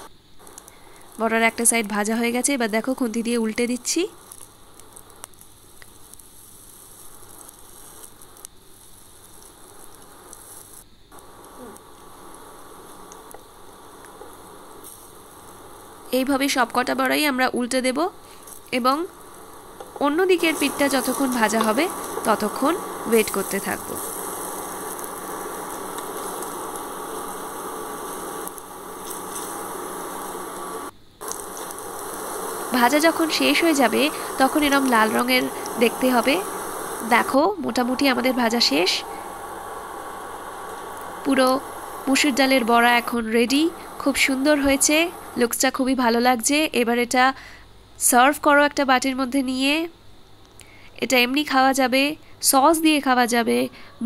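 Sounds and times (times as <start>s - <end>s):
fritters sizzling in hot oil: 0.0s - 47.0s.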